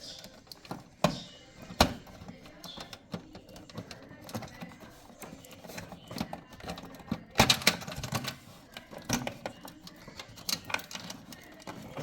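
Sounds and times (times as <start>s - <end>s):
plastic cable clicks and knocks: 0.5s - 12.0s.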